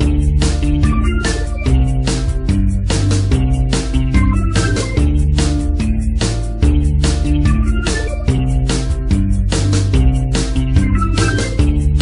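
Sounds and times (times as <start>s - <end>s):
guitar: 0.0s - 12.0s
steady drum beat: 0.0s - 12.0s.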